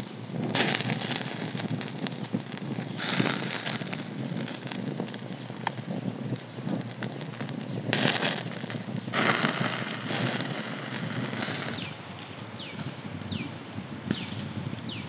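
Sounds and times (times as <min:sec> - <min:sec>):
hissing bursts: 0:00.0 - 0:14.8
wood fire crackling: 0:00.0 - 0:15.0.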